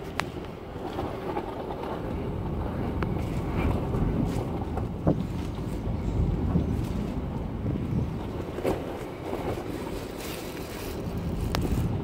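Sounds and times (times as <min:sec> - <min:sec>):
hurricane wind: 0:00.0 - 0:12.0.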